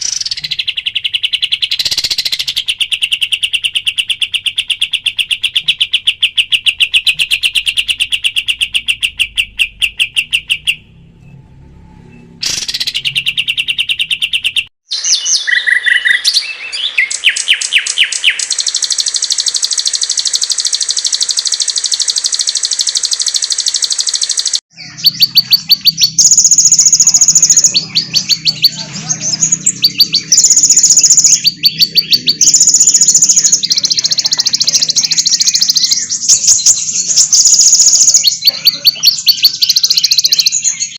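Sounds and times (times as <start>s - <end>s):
high buzzing bird trill: 0.0s - 11.0s, 12.1s - 40.9s
songbirds chirping and trilling: 0.0s - 40.9s.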